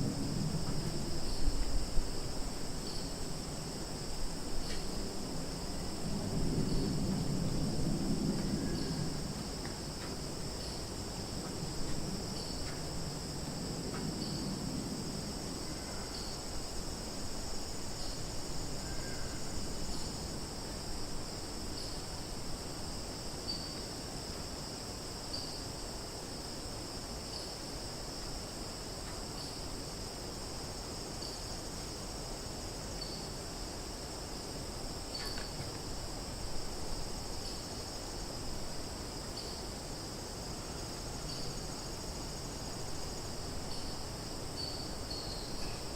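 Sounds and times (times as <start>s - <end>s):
high-pitched insect chorus: 0.0s - 45.9s.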